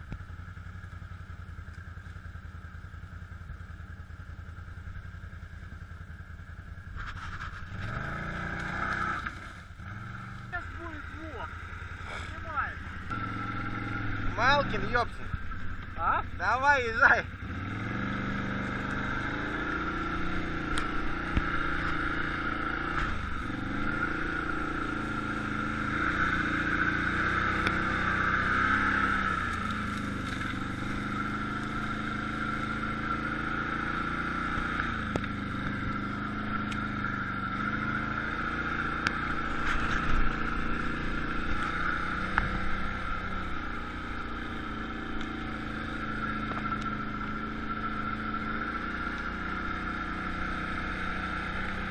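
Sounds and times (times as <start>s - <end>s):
quad bike engine revving: 7.0s - 51.9s.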